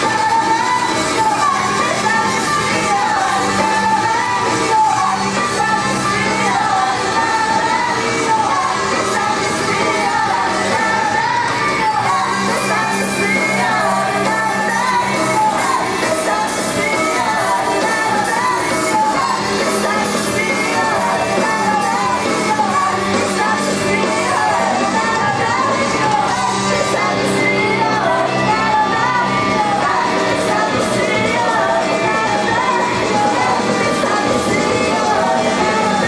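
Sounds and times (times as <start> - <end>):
pop backing music: 0.0 - 36.0
woman singing: 0.0 - 36.0.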